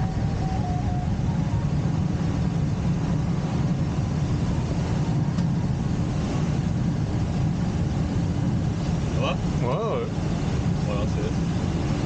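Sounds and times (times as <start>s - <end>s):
air rushing in cockpit: 0.0s - 12.0s.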